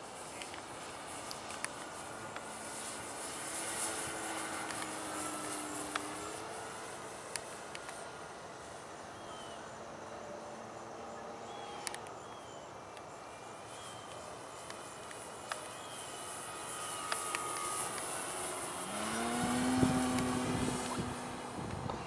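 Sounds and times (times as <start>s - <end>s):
model airplane propeller drone: 0.0s - 22.0s.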